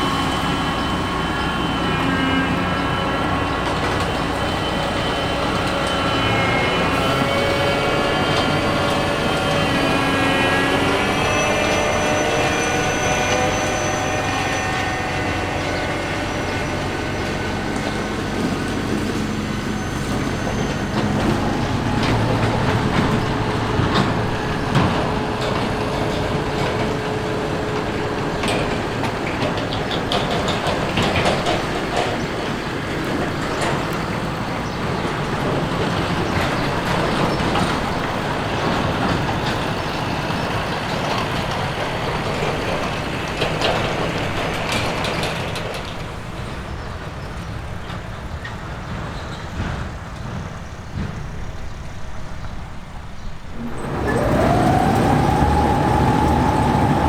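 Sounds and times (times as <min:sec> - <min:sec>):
diesel harvester engine running: 0:00.0 - 0:50.5, 0:53.4 - 0:57.0.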